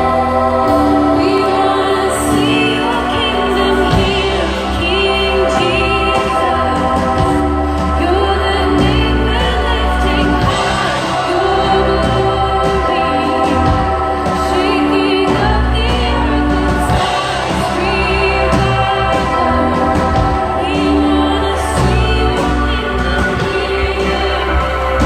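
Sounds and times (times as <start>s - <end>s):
person singing: 0.0s - 25.0s
worship band playing: 0.0s - 25.0s.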